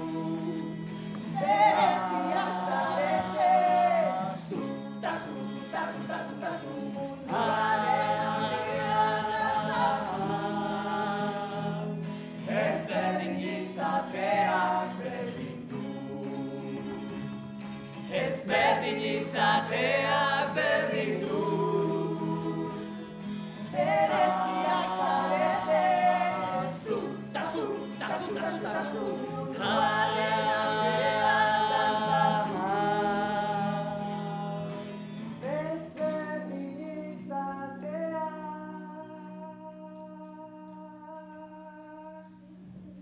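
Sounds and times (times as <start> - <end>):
voices singing in harmony: 0.0 - 43.0.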